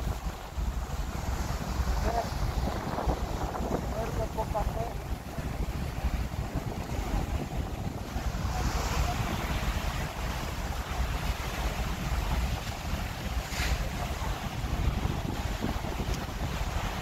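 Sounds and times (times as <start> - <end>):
rushing ferry wake: 0.0 - 17.0
wind buffeting microphone: 0.0 - 17.0.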